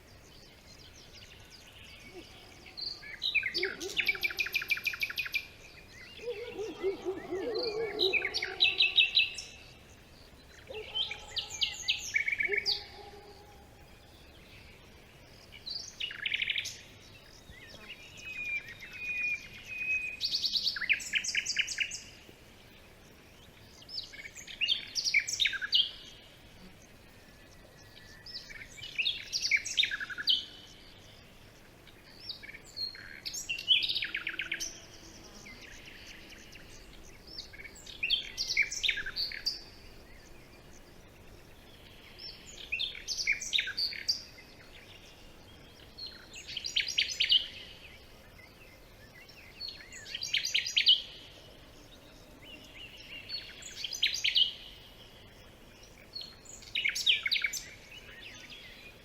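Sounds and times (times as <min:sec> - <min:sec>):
faint background hiss: 0:00.0 - 0:59.0
songbird singing: 0:00.0 - 0:59.0.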